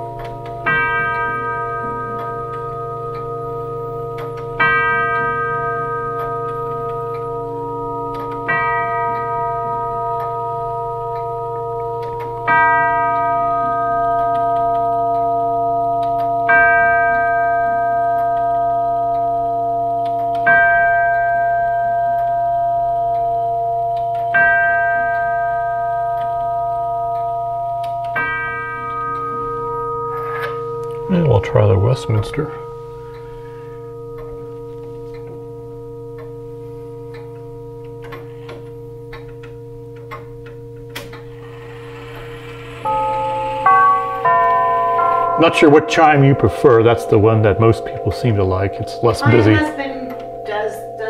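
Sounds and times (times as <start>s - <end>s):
chime clock striking on tubular bells: 0.0s - 51.0s.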